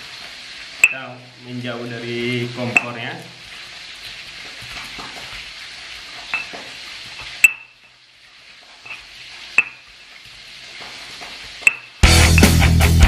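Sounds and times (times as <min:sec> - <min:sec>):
oil sizzling in frying pan: 0:00.0 - 0:13.0.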